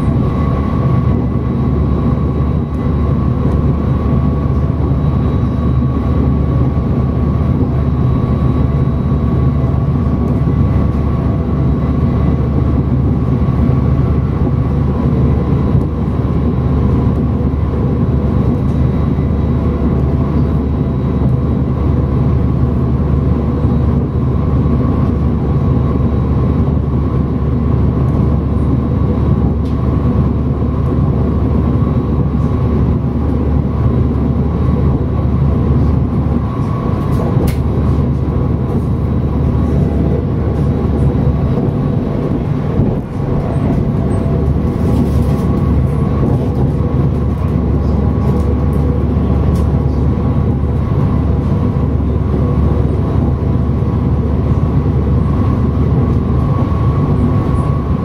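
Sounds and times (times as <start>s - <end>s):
wheels rumbling on rail: 0.0s - 58.0s.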